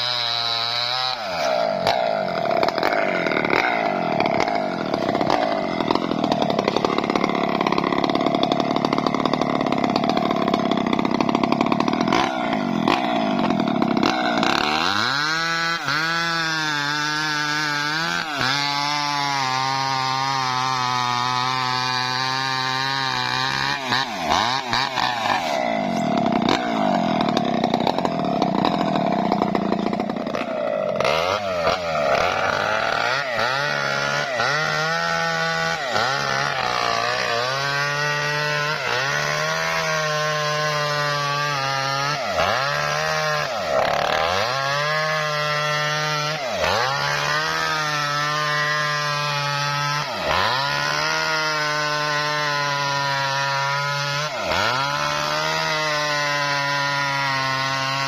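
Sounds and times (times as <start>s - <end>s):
petrol saw cutting wood: 0.0s - 58.0s.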